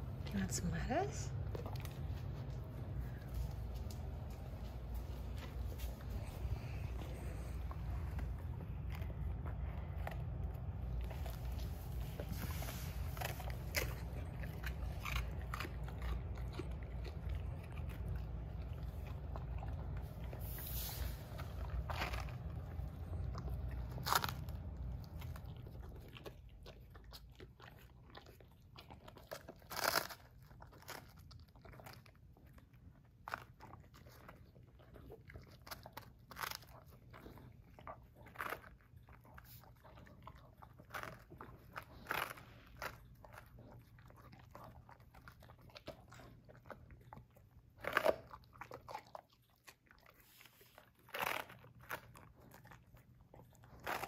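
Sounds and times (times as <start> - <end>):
dog crunching lettuce: 0.0 - 54.0.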